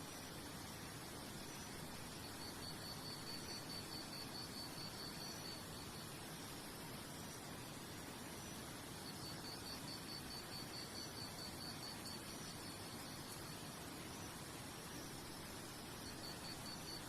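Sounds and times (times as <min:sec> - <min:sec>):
pulsing cricket-like chirp: 0:00.0 - 0:17.0
steady hiss: 0:00.0 - 0:17.0.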